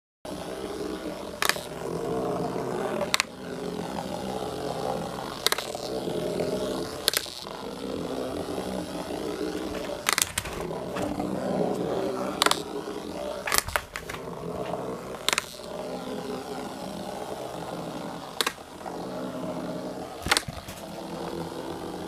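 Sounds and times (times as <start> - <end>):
vibrating toy bug buzzing: 0.3 - 22.0.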